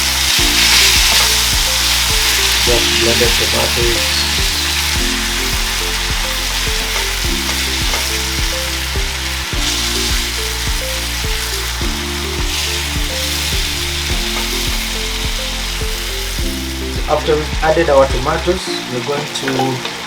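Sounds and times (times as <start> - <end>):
background music with steady beat: 0.0 - 20.0
chicken sizzling in a pot: 0.0 - 20.0.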